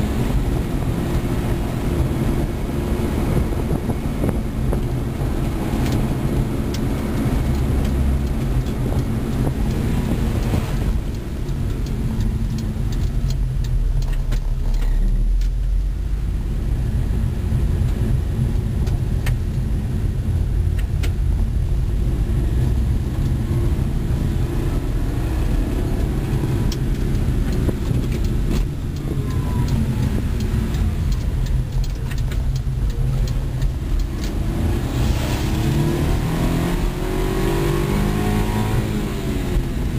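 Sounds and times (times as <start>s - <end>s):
small truck engine rumbling: 0.0s - 39.9s.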